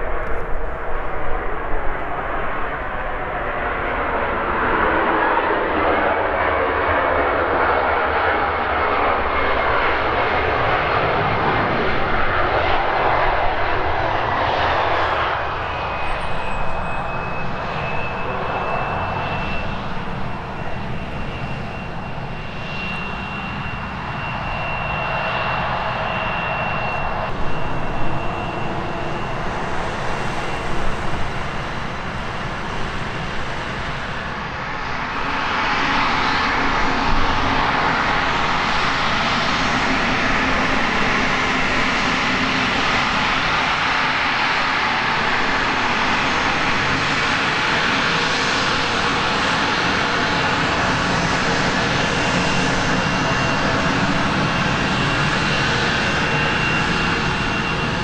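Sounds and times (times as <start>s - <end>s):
high-pitched engine whine: 0.0s - 58.0s
jet engine rush: 0.0s - 58.0s.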